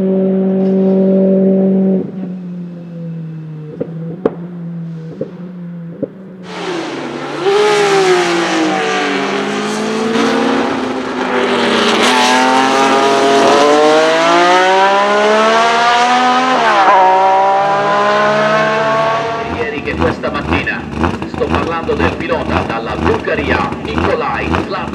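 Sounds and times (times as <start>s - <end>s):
racing car engine revving: 0.0s - 24.9s.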